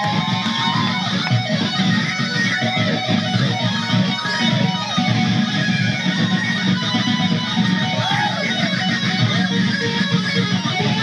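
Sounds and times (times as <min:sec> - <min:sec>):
lead guitar bending notes: 0:00.0 - 0:11.0
live heavy metal music: 0:00.0 - 0:11.0.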